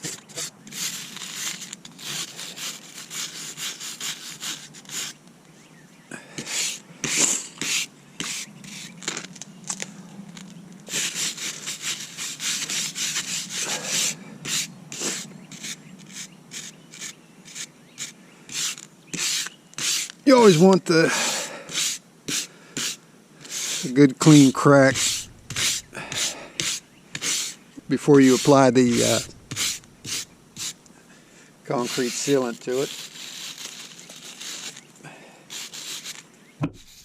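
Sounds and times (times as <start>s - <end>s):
wire brush scrubbing concrete: 0.0s - 5.2s, 6.4s - 8.9s, 10.9s - 30.8s, 31.7s - 34.9s, 35.5s - 36.2s.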